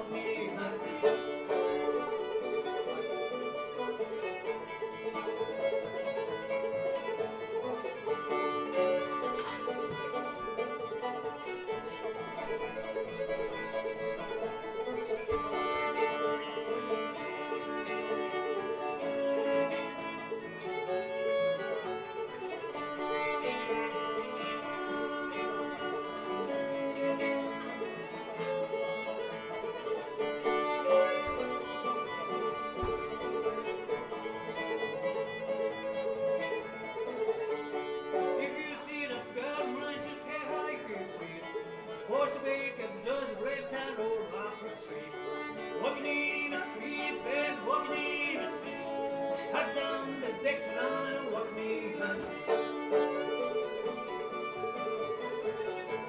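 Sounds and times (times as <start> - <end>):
fiddle melody: 0.0 - 56.0
plucked banjo: 0.0 - 56.0.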